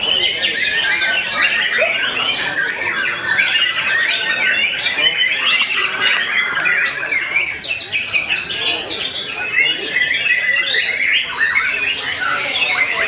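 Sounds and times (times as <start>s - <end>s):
birds whistling and chirping: 0.0s - 13.0s.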